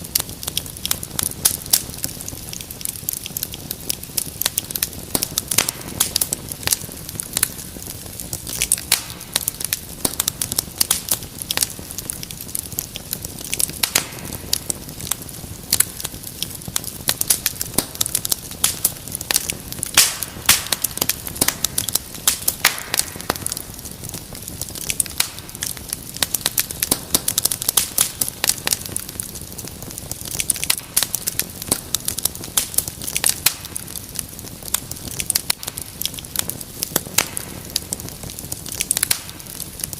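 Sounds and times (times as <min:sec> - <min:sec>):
fire hiss: 0:00.0 - 0:39.9
wood fire crackling: 0:00.0 - 0:39.9.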